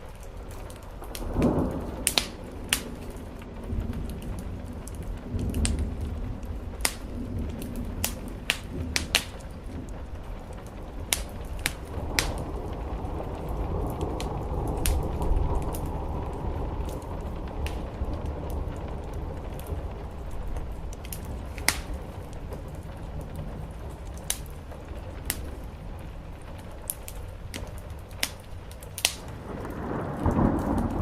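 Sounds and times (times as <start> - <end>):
low rumbles: 0.0 - 31.0
rain on a roof: 0.0 - 31.0
wood fire crackling: 0.0 - 31.0.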